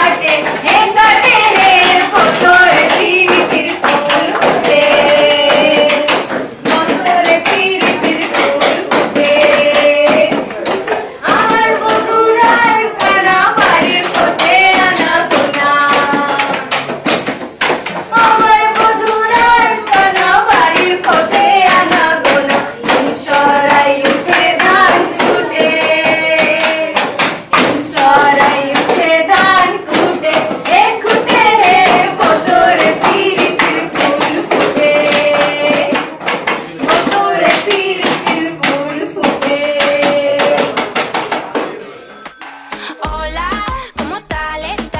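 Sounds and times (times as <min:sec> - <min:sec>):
two women singing together: 0:00.0 - 0:41.2
hand-tapped beat: 0:00.0 - 0:44.9.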